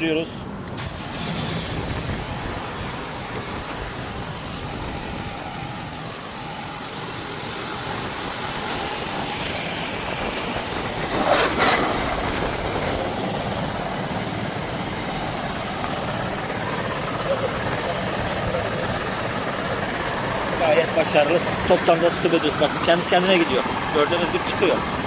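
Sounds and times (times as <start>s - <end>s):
sewer-jetting machine running: 0.5s - 25.0s.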